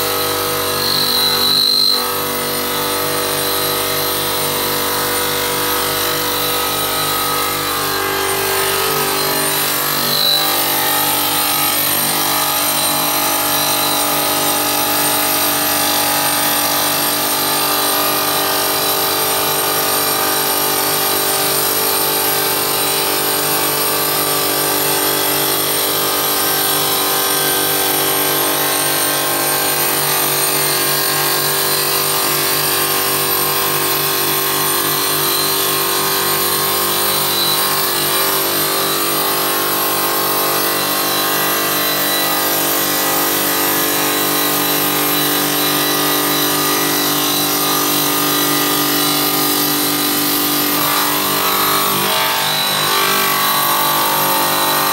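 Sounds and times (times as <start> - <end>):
stone-cutting machine whine: 0.0 - 54.9.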